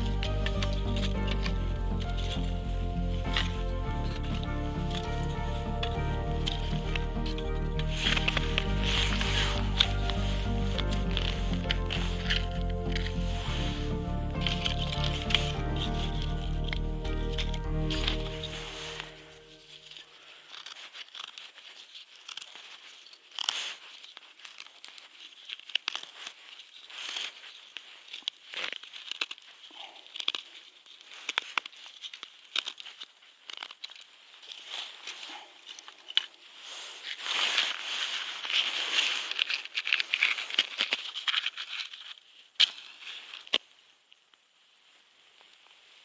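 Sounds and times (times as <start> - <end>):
kindling crackling and snapping: 0.0 - 46.0.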